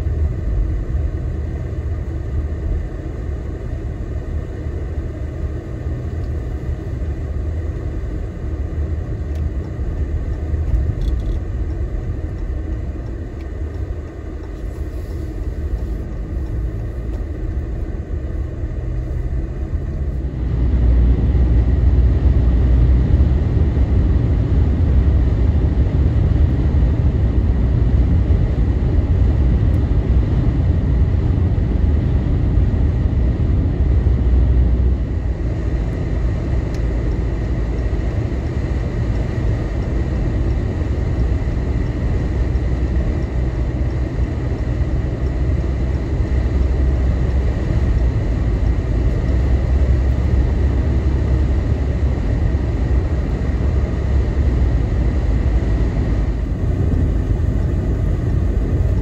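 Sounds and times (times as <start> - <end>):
road and wind rumble: 0.0 - 59.0.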